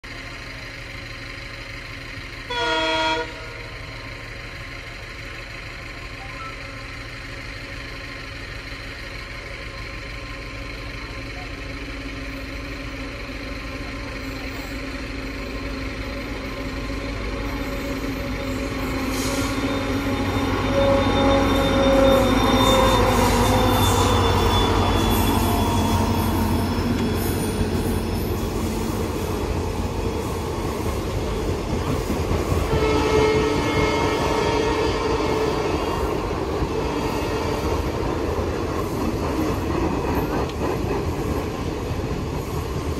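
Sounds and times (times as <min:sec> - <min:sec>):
diesel locomotive passing: 0:00.0 - 0:42.9
train wheels rattling and squealing: 0:03.2 - 0:42.9.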